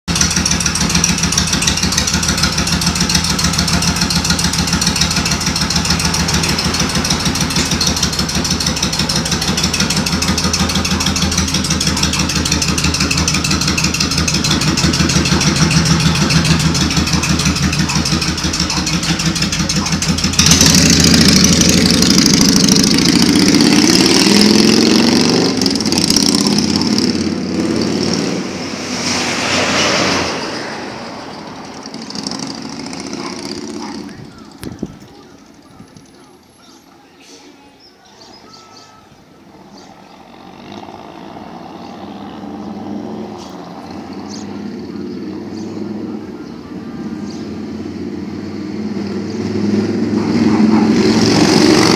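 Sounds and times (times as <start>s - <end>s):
motorcycle engine idling and accelerating: 0.0s - 36.9s, 38.6s - 51.9s.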